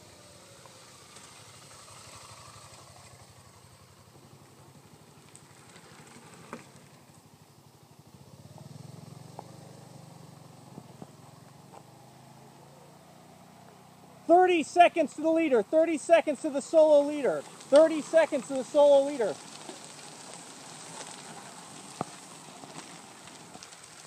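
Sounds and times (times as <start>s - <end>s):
motorcycle passing: 0.0s - 24.0s.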